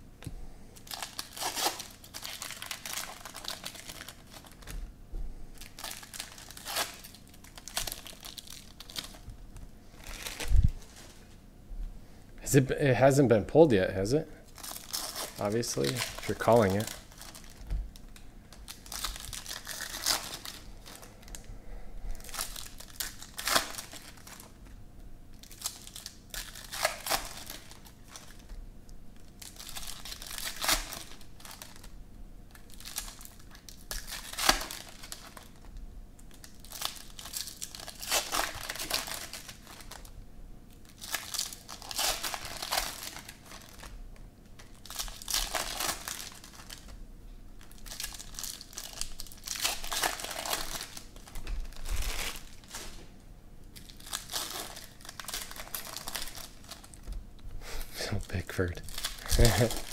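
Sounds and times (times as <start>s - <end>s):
wrappers tearing and crinkling: 0.8s - 4.8s, 5.6s - 9.2s, 9.9s - 11.2s, 14.4s - 21.5s, 22.2s - 24.7s, 25.3s - 28.6s, 29.2s - 40.1s, 40.7s - 46.9s, 47.6s - 53.0s, 53.7s - 57.2s, 58.1s - 59.9s.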